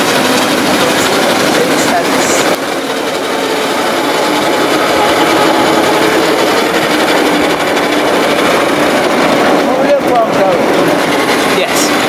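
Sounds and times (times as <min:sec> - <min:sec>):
locomotive drive whine: 0:00.0 - 0:12.0
wheels rumbling on rails: 0:00.0 - 0:12.0.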